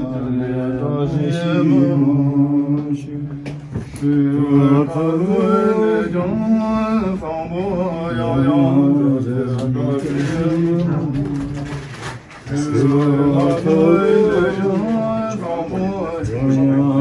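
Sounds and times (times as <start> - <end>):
low male voices chanting: 0.0 - 17.0.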